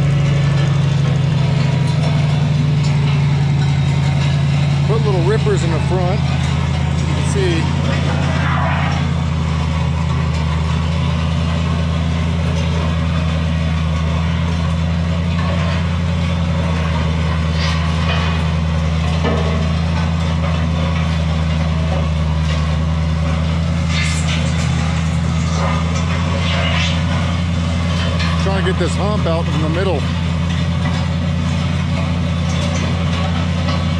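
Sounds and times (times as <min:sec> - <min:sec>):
steel scraping on gravel: 0:00.0 - 0:33.9
truck engine running: 0:00.0 - 0:33.9.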